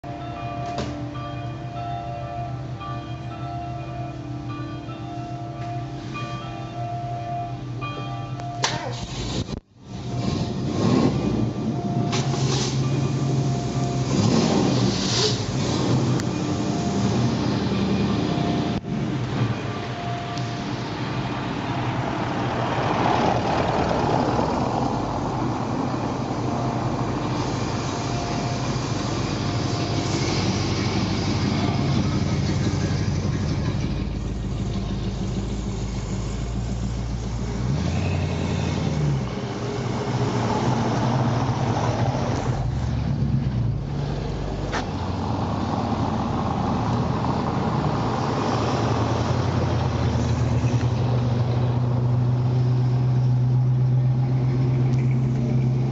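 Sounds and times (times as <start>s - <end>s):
car engines idling: 0.0s - 55.9s.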